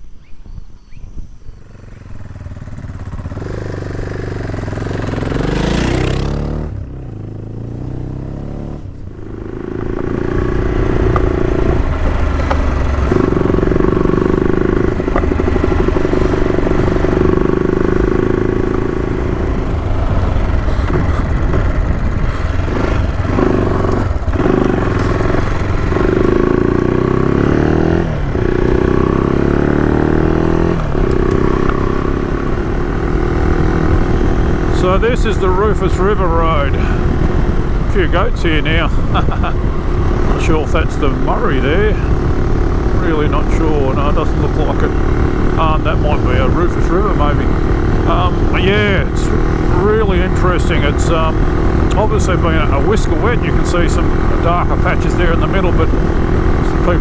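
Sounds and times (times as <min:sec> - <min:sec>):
motorcycle engine revving: 0:01.6 - 0:57.0.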